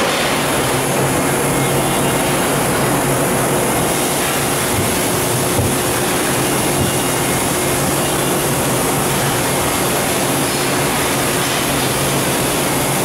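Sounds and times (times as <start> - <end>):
machine running with low hum: 0.0 - 13.0.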